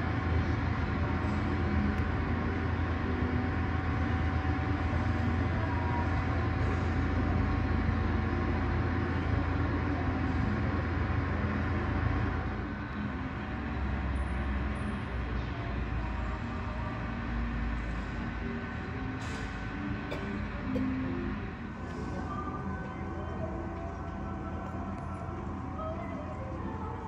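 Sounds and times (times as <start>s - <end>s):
faint constant whine: 0.0s - 27.0s
low rumble of airport machinery: 0.0s - 27.0s.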